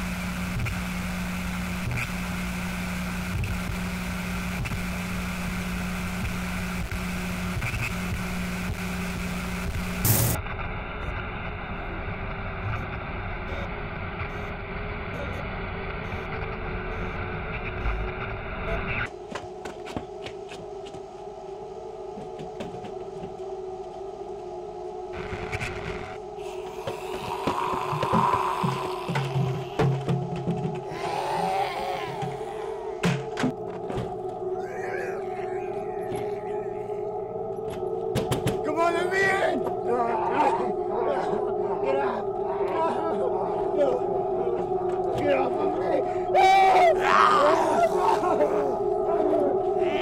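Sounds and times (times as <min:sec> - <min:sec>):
low drone with hiss: 0:00.0 - 0:50.0.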